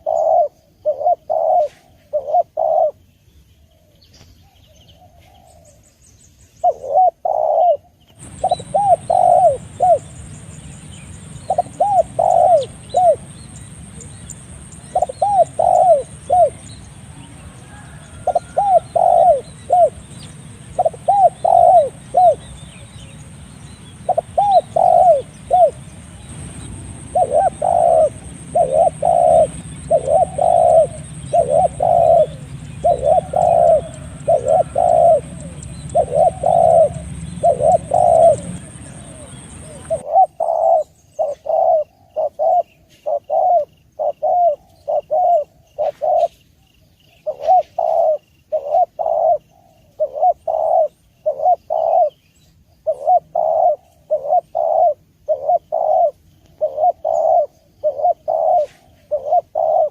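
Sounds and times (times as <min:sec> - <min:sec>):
dove cooing: 0:00.0 - 0:03.1, 0:03.7 - 0:05.8, 0:06.6 - 0:10.3, 0:11.0 - 0:46.4, 0:47.1 - 0:59.9
steady background hiss: 0:00.0 - 0:59.9.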